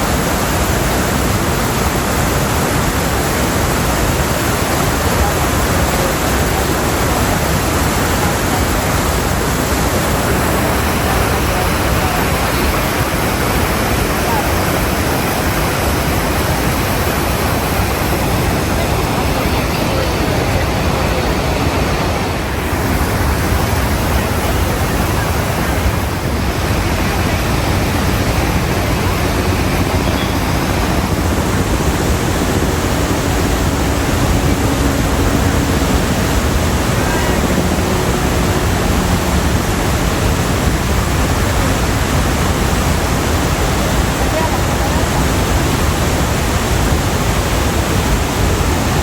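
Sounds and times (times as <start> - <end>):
rush of falling water: 0.0 - 49.0.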